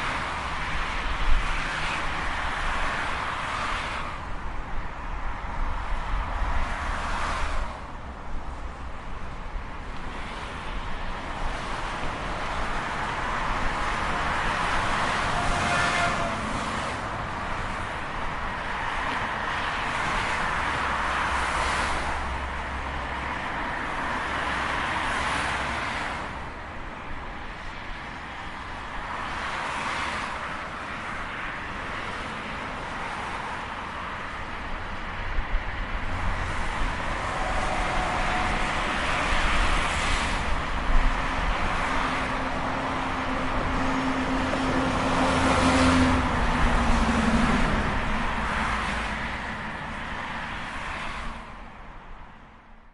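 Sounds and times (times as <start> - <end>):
highway traffic rushing: 0.0 - 52.9.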